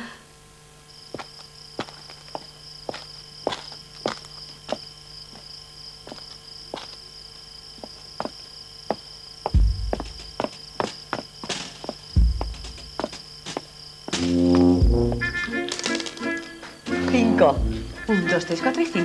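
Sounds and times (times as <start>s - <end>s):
crickets trilling: 0.7s - 19.0s
footsteps on hard surface: 1.1s - 7.0s, 7.8s - 19.0s.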